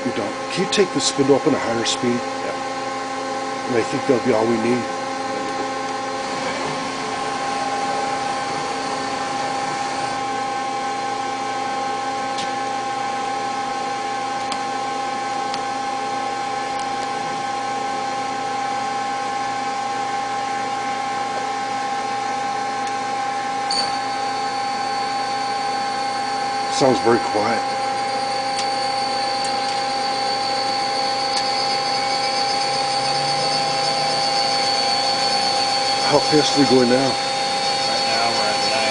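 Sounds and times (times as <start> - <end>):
lathe spindle humming: 0.0 - 38.9
faint high whine: 3.5 - 14.1, 15.1 - 38.9.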